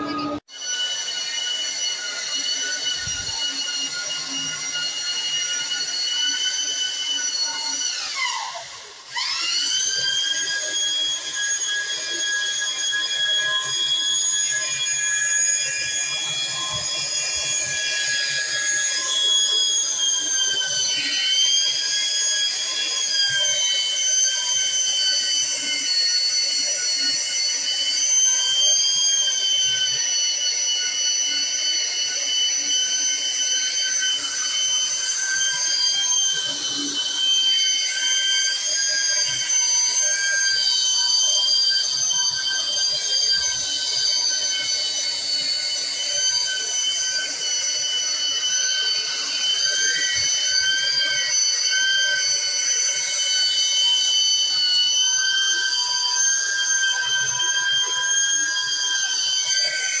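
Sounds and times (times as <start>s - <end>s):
belt sander whining: 0.0s - 60.0s.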